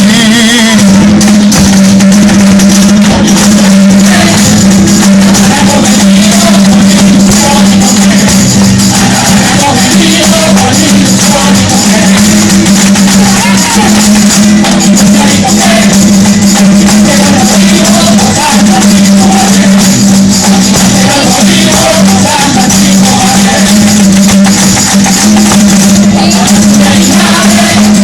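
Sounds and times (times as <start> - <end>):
jingling percussion: 0.0 - 28.0
person singing wavering melody: 3.1 - 24.2, 25.8 - 28.0.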